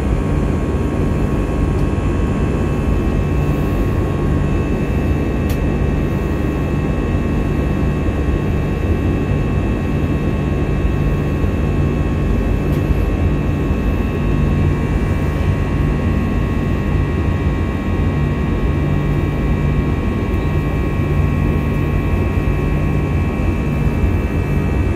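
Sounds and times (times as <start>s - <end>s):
airliner engine rumble: 0.0s - 24.9s.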